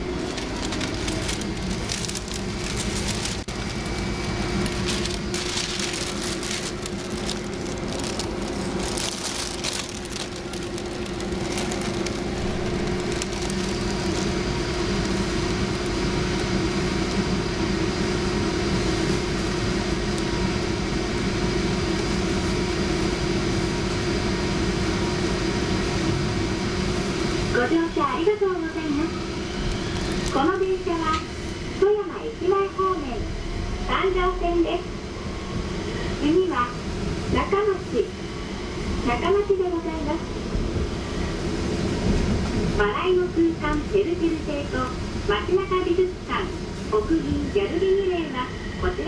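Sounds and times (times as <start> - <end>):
tram motor hum: 0.0 - 48.4.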